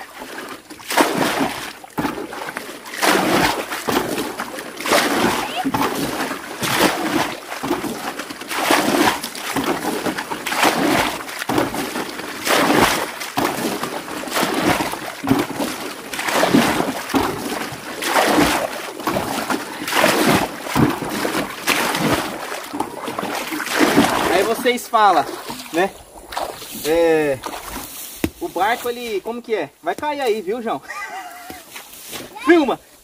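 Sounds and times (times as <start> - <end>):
water sloshing in hull: 0.0 - 29.1
water splashing from bailing: 0.0 - 29.1.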